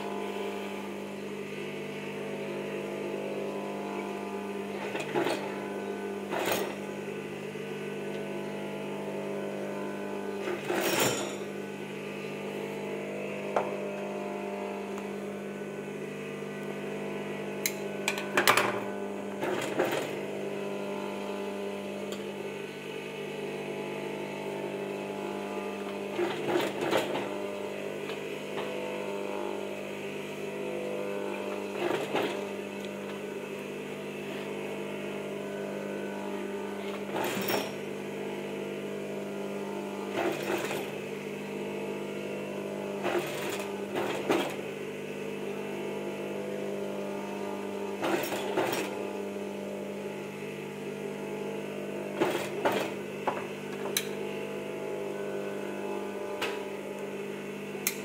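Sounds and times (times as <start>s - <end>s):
sewing machine running: 0.0s - 2.7s, 3.4s - 7.8s, 8.4s - 15.5s, 16.5s - 45.6s, 46.5s - 57.1s.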